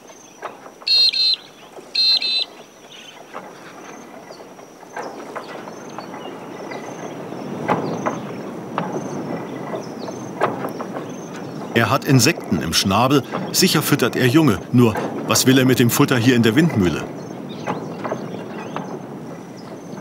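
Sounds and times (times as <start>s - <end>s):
bird calls: 0.0s - 20.0s
windmill turning with clanks: 0.0s - 20.0s.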